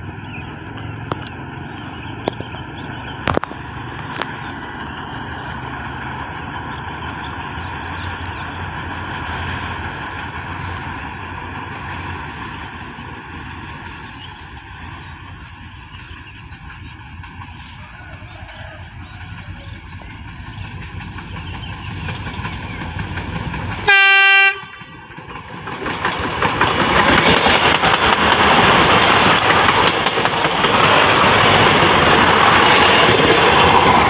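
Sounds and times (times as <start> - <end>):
distant train rumble: 0.0 - 34.0.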